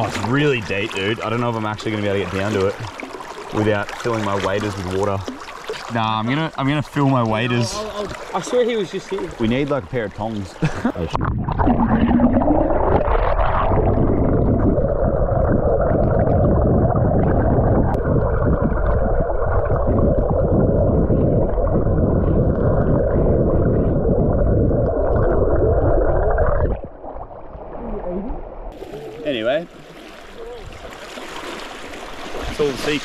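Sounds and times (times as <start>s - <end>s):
muffled river water rushing underwater: 0.0s - 33.0s.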